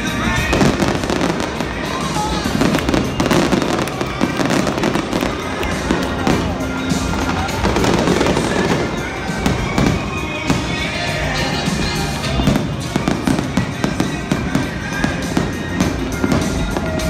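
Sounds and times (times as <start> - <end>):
fireworks bursting and crackling: 0.0 - 17.0
music playing: 0.0 - 17.0.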